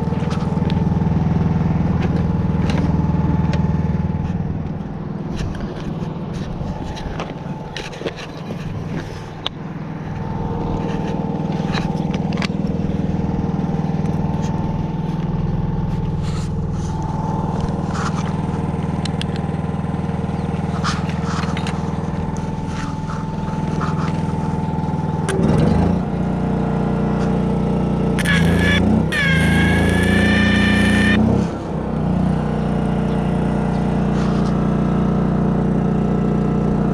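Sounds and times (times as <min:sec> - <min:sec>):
vehicle engine idling: 0:00.0 - 0:25.4, 0:26.0 - 0:36.9.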